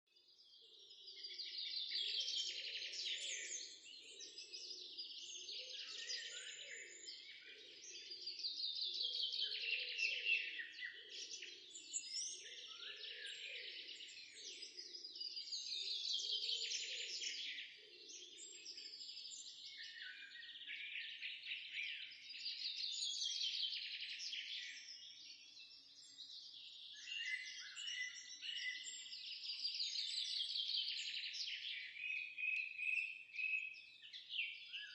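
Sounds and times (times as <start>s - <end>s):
songbirds trilling and chirping: 0.0s - 34.9s.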